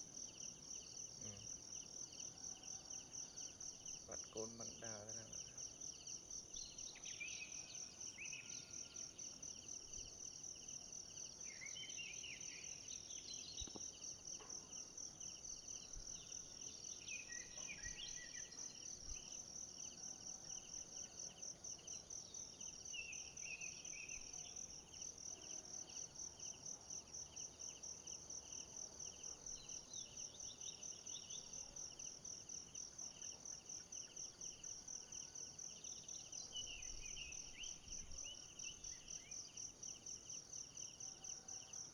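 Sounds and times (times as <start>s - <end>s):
insects trilling: 0.2s - 41.9s.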